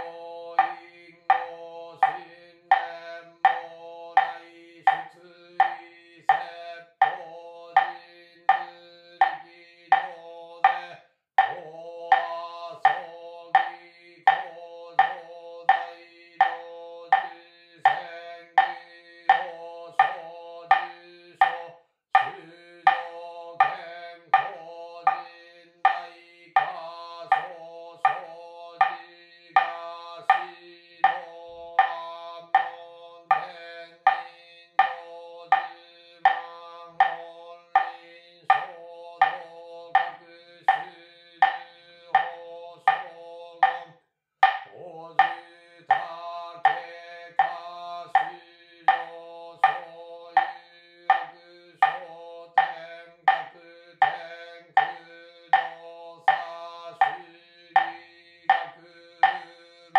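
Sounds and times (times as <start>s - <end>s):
percussion struck evenly: 0.0s - 59.6s
person chanting: 0.0s - 59.9s.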